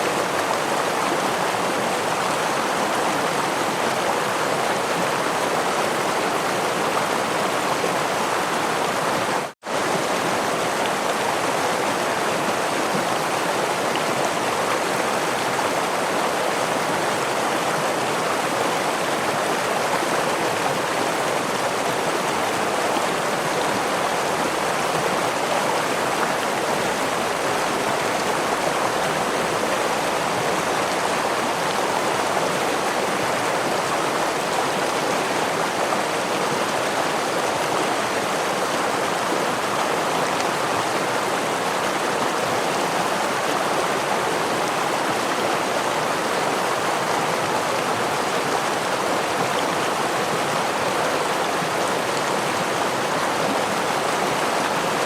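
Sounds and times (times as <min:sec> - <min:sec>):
stream rushing and splashing: 0:00.0 - 0:55.0.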